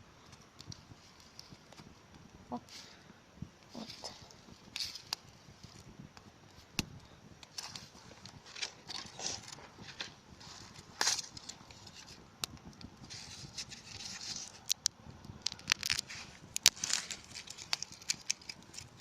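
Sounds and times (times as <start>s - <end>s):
campfire crackling and popping: 0.0s - 19.0s
light hiss: 0.0s - 19.0s.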